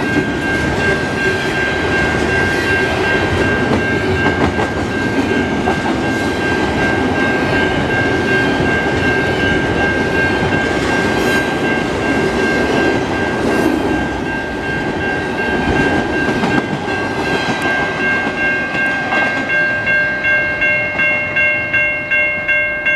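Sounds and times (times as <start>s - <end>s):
train wheels rumbling and clattering: 0.0s - 20.0s
grade-crossing bell ringing: 0.0s - 22.9s.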